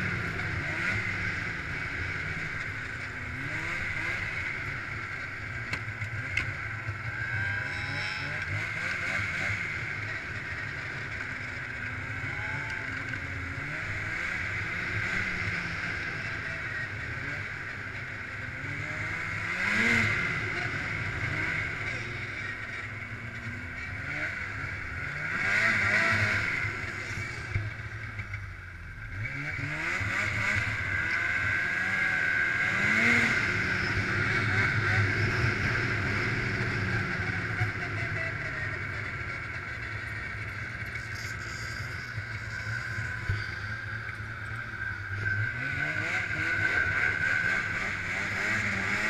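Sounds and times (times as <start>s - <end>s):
snowmobile engine revving: 0.0s - 28.3s, 28.9s - 49.0s.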